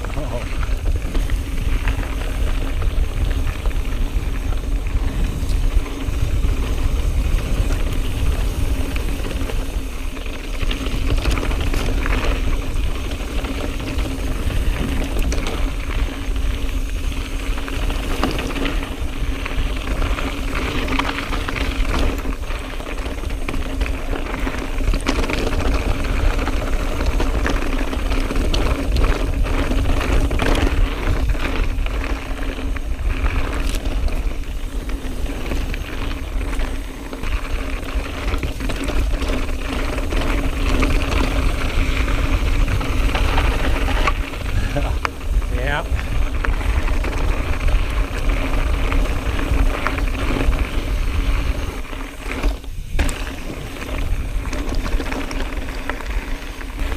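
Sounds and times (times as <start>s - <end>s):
bike tyres crunching on gravel: 0.0s - 56.9s
wind buffeting microphone: 0.0s - 56.9s.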